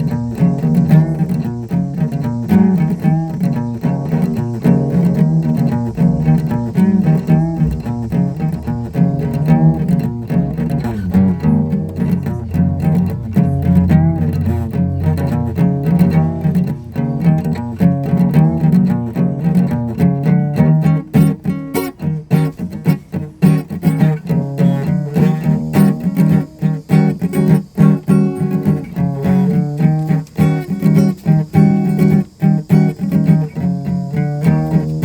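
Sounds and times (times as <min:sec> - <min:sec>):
low string instruments playing: 0:00.0 - 0:35.0.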